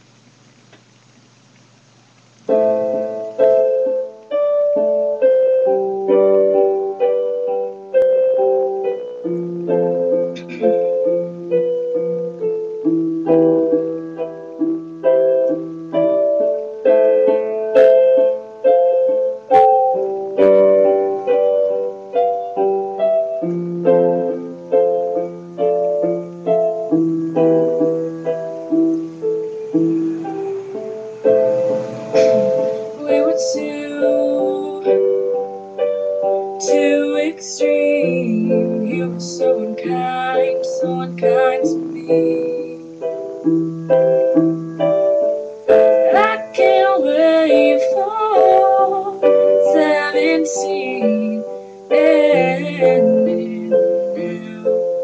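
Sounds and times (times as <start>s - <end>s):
electronic keyboard piano melody: 2.5s - 55.0s.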